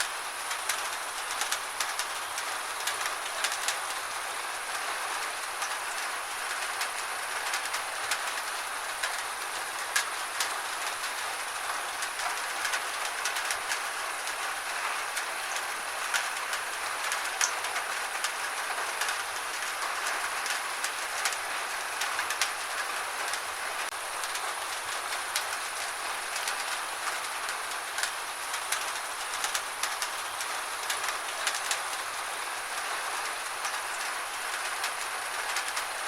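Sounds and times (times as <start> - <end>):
gentle rain falling: 0.0 - 36.0.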